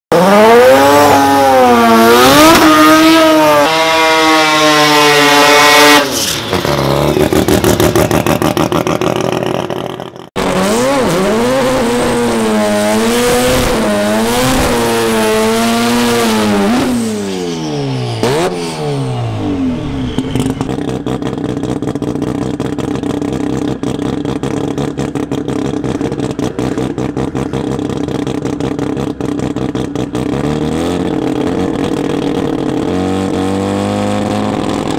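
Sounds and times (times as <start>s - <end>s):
drag race engines revving: 0.1s - 34.9s.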